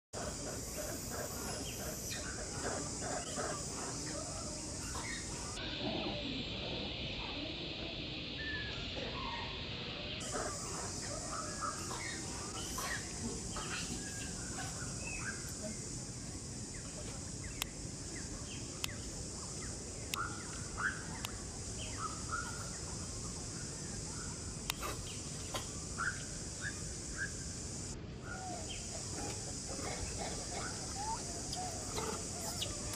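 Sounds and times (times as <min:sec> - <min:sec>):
birds chirping: 0:00.2 - 0:05.6, 0:10.2 - 0:32.9
steady hiss: 0:00.2 - 0:32.9.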